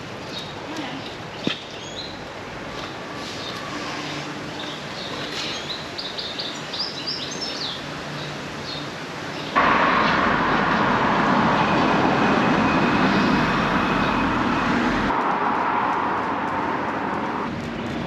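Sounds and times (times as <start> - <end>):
rushing street traffic: 0.0 - 18.0.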